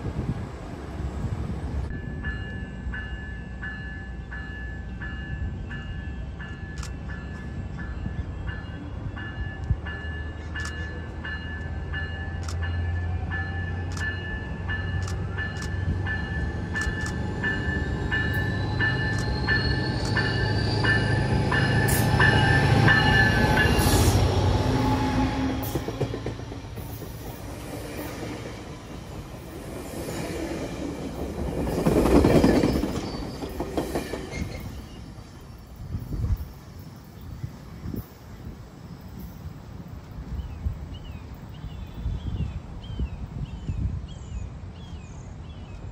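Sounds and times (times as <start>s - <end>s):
train rumble and rail noise: 0.0s - 45.9s.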